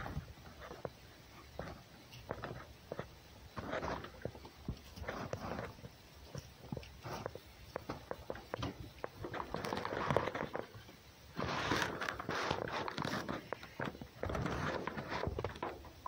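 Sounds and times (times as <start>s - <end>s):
animals rustling in hay: 0.0s - 15.8s.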